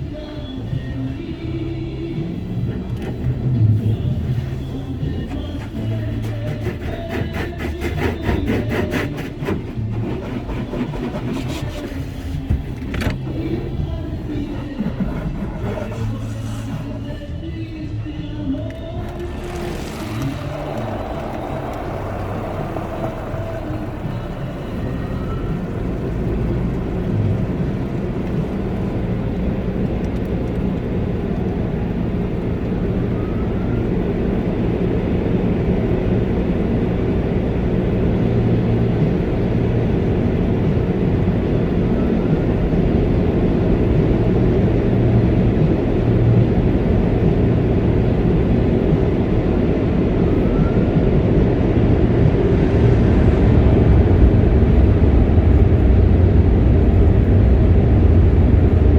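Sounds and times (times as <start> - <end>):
car wash machinery rumbling: 0.0 - 58.9.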